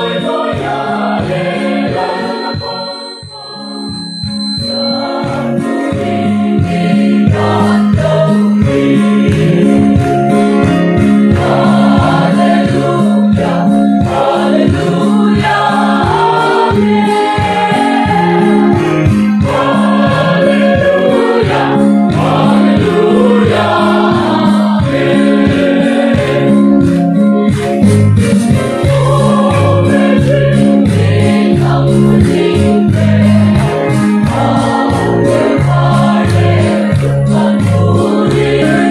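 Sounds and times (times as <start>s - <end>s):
choir singing gospel: 0.0s - 27.3s, 28.4s - 38.9s
steady beat: 0.0s - 38.9s.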